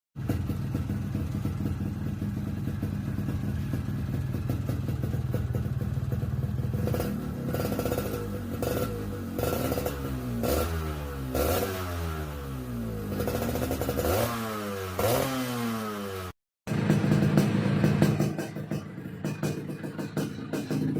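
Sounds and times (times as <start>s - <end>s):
motorcycle engine idling: 0.2s - 11.4s, 12.0s - 14.3s, 16.7s - 20.9s
motorcycle engine revving: 0.2s - 20.9s.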